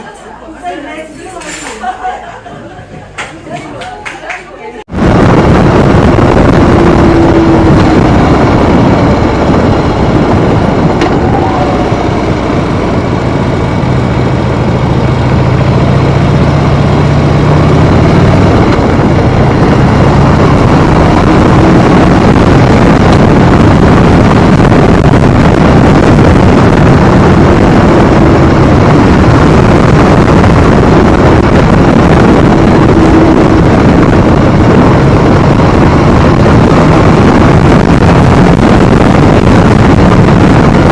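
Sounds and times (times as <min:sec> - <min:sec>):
wind rushing on microphone: 0:04.8 - 0:40.9
motorcycle engine running: 0:05.0 - 0:40.9.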